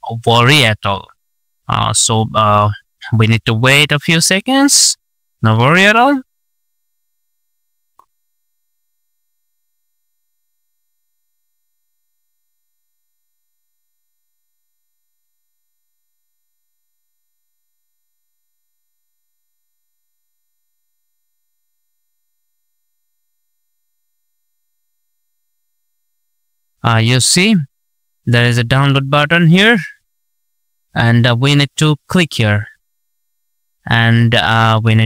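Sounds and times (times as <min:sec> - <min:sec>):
faint steady tone: 0:00.0 - 0:35.0.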